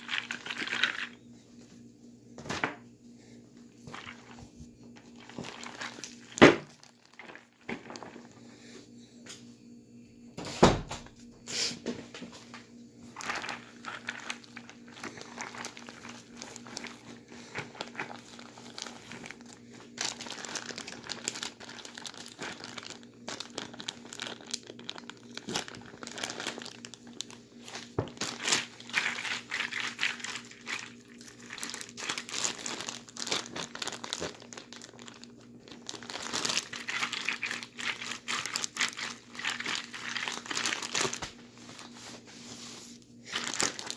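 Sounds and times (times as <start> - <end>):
plastic bag crinkling: 0.0 - 1.2, 3.8 - 8.4, 13.1 - 43.9.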